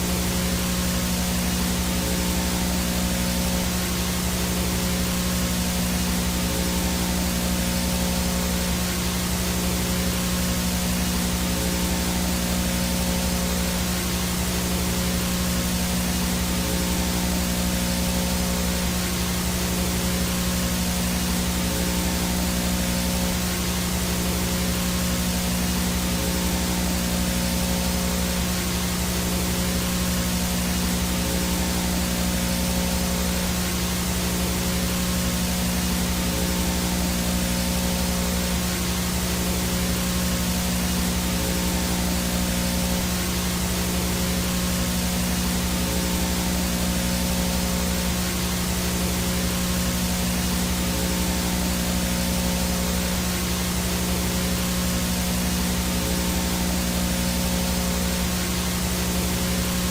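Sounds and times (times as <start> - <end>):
low buzzing hum: 0.0 - 59.9
white noise static hiss: 0.0 - 59.9.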